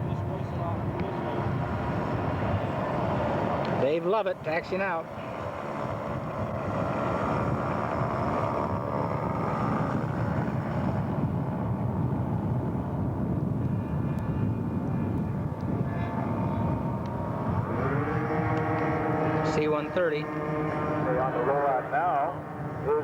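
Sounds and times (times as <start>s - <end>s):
model airplane engine running: 0.0s - 23.0s.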